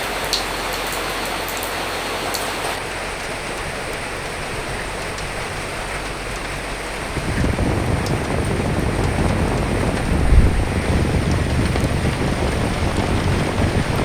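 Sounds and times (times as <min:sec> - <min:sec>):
rain pattering: 0:00.0 - 0:14.0
wind gusting: 0:00.0 - 0:14.0.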